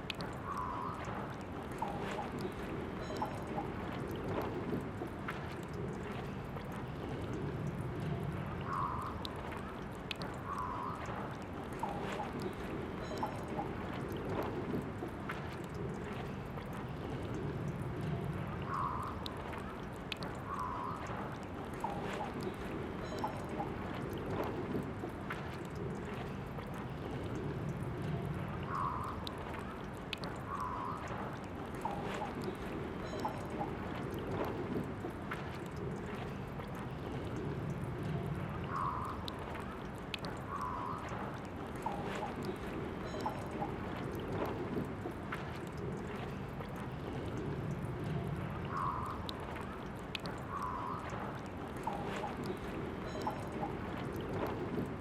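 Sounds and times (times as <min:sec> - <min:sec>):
water dripping: 0:00.0 - 0:55.0.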